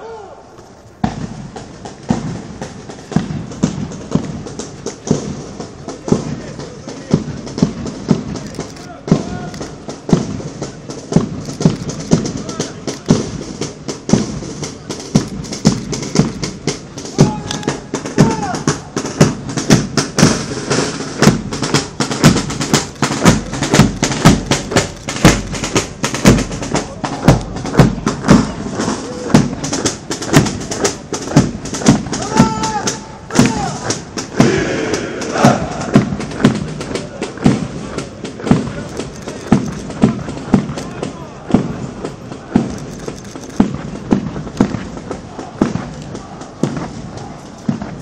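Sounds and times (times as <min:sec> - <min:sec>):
soldiers marching in step: 0:00.5 - 0:48.0.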